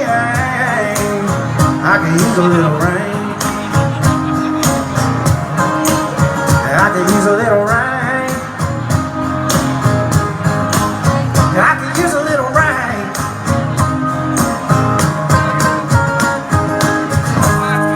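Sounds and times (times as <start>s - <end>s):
guitar chords: 0.0s - 17.9s
steady drum beat: 0.0s - 17.9s.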